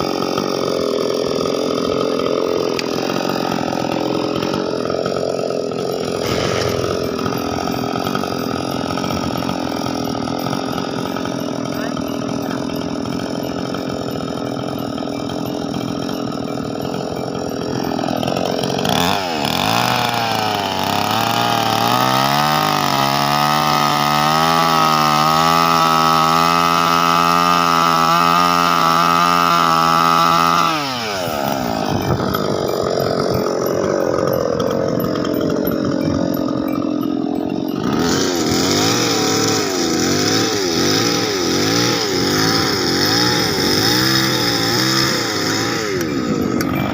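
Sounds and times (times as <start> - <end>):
small engine revving: 0.0 - 46.9.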